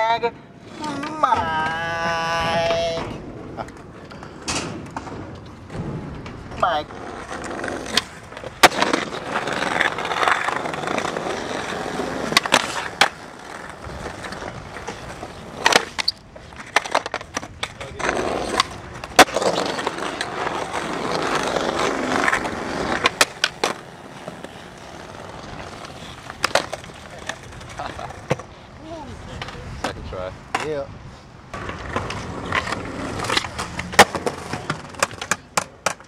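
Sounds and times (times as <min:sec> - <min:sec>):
skateboard wheels rolling on concrete: 0:00.0 - 0:36.0
skateboard clacks: 0:00.8 - 0:28.5, 0:31.5 - 0:36.0.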